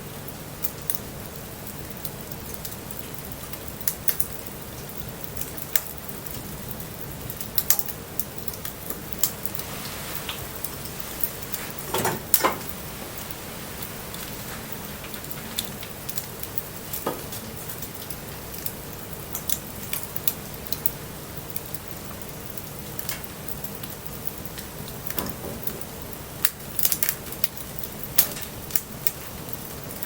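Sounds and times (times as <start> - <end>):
bonfire crackling and popping: 0.0 - 30.0
light rain hissing: 0.0 - 30.0.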